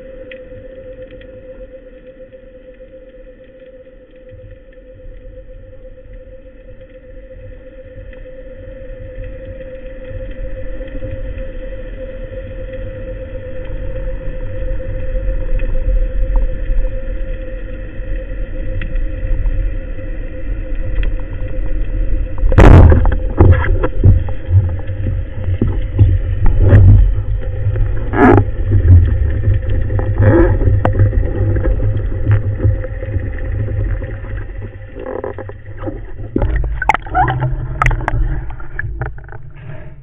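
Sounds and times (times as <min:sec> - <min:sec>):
faint hum: 0:00.0 - 0:40.0
underwater low rumble: 0:00.0 - 0:40.0.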